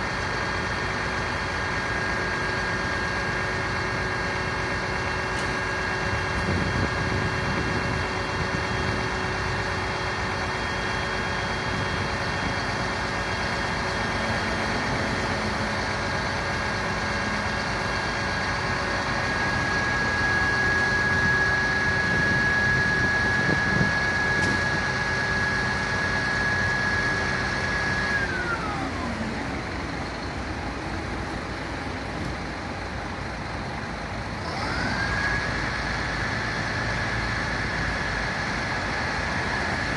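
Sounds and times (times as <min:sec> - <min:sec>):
fire engine siren: 0:00.0 - 0:39.9
truck engine running: 0:00.0 - 0:39.9.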